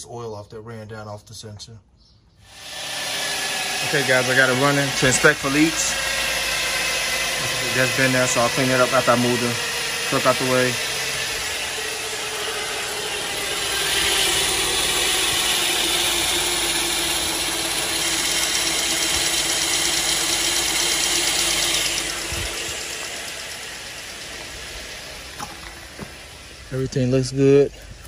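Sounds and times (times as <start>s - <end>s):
car engine idling: 3.1s - 28.0s.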